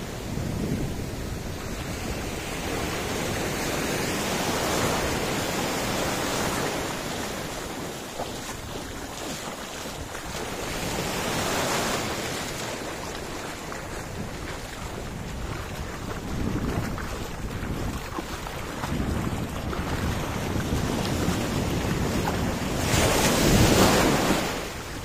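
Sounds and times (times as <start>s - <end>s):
surf washing around legs: 0.0s - 25.0s
wind buffeting microphone: 0.0s - 25.0s.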